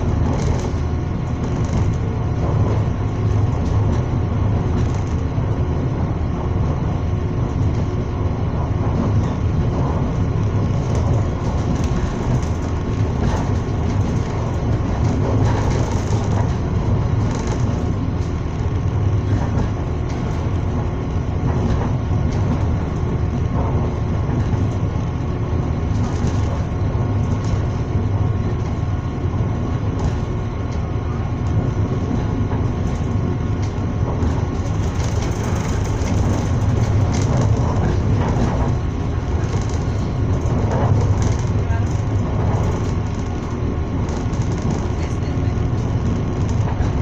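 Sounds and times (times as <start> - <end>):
train running rumble: 0.0 - 47.0
wheels clicking on rails: 0.0 - 47.0.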